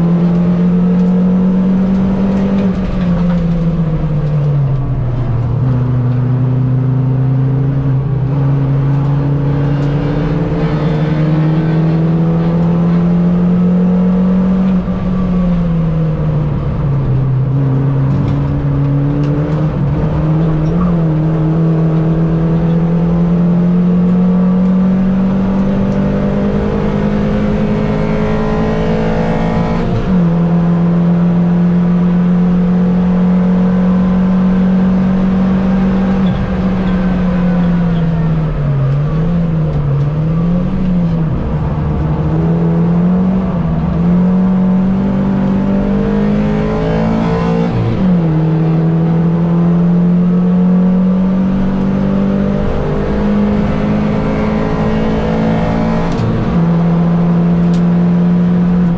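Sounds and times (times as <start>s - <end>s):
race car engine at full load: 0.0s - 58.9s.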